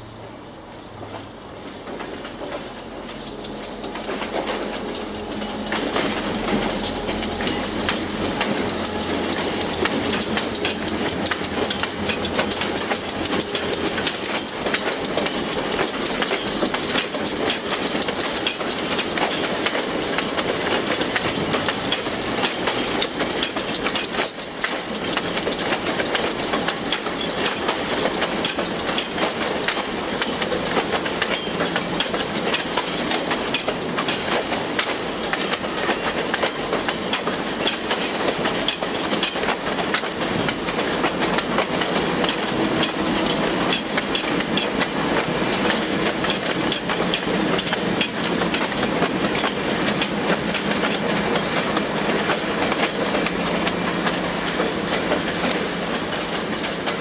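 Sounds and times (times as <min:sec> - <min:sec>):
diesel train passing: 0:00.0 - 0:57.0
wheels clicking over rail joints: 0:00.9 - 0:57.0.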